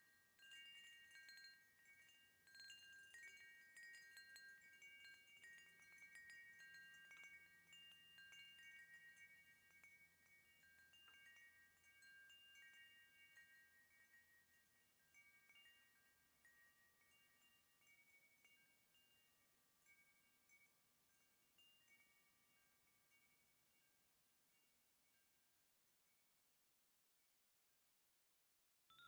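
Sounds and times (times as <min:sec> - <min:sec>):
wind chimes ringing: 0:00.0 - 0:23.9.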